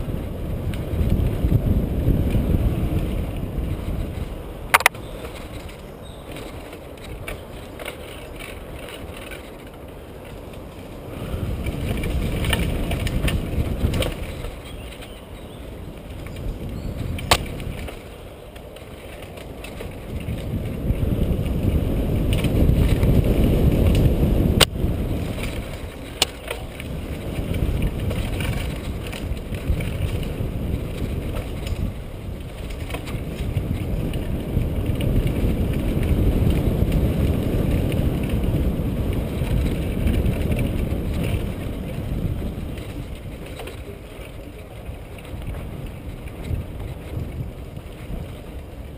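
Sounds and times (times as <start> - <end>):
rumbling rush of tyres and air: 0.0 - 48.9
bike clicking and knocking: 0.6 - 48.9.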